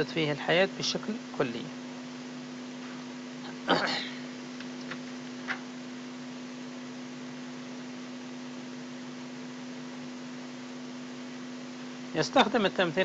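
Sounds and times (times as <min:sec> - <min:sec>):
low electrical hum and hiss: 0:00.0 - 0:13.0.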